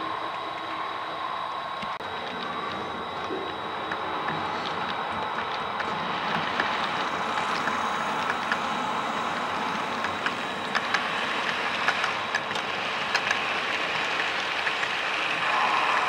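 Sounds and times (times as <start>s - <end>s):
model train whirring hum: 0.0s - 16.0s
wheels clicking over rail joints: 0.0s - 16.0s.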